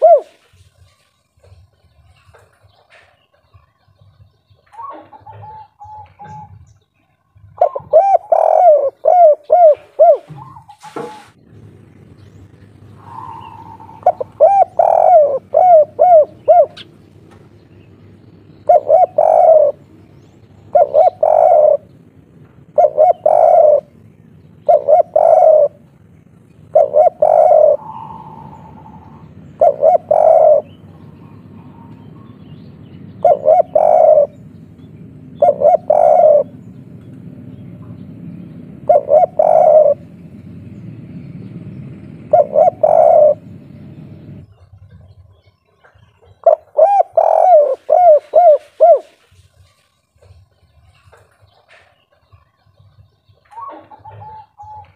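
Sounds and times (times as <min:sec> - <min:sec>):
dove cooing: 0:00.0 - 0:02.0, 0:04.6 - 0:49.6, 0:53.4 - 0:54.9.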